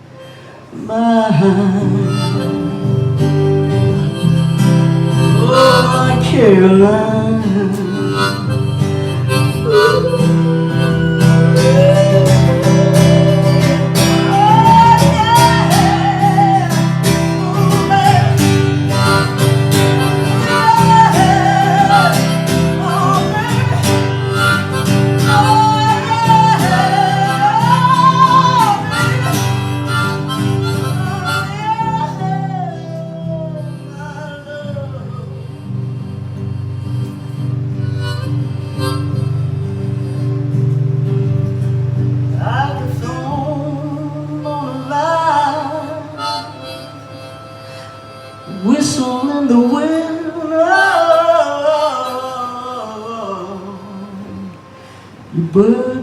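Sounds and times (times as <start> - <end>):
harmonica melody: 0.0 - 55.2
strummed acoustic guitar: 0.0 - 56.0.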